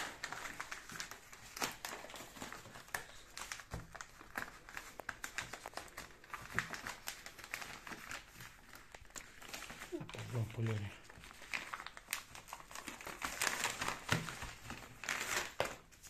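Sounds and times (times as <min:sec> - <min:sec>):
paper envelope rustling and crinkling: 0:00.0 - 0:16.0.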